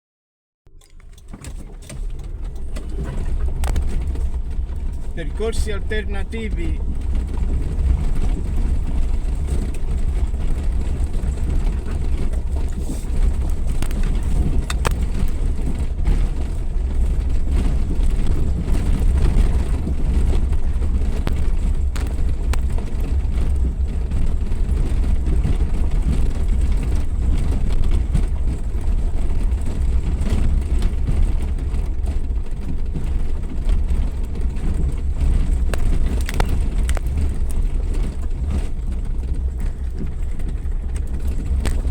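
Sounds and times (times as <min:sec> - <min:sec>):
vehicle engine rumbling: 0:00.7 - 0:41.9.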